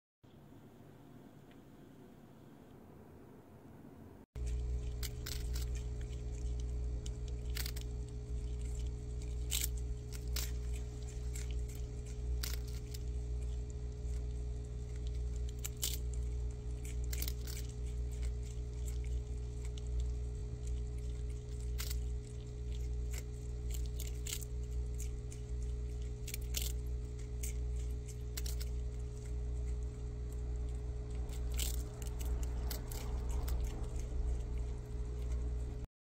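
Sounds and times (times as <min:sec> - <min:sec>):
steady low hum: 0:00.3 - 0:35.9
animals crunching biscuits: 0:04.4 - 0:35.9.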